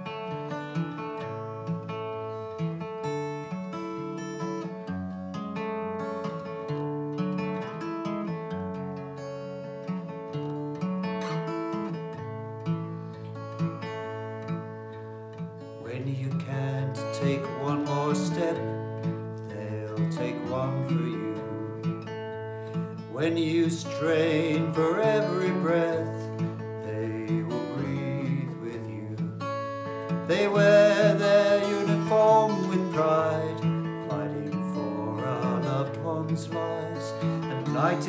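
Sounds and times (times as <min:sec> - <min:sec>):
strummed acoustic guitar: 0:00.0 - 0:38.0.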